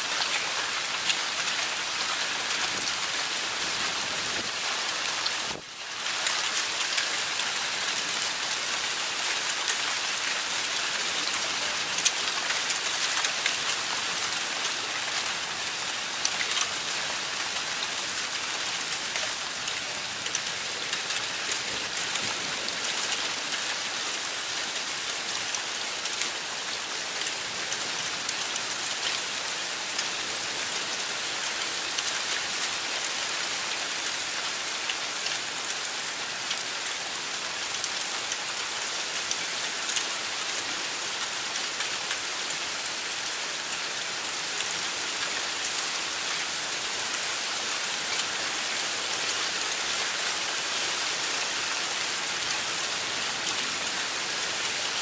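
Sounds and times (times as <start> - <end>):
heavy rain pouring: 0.0 - 55.0
raindrops ticking on surfaces: 0.1 - 55.0.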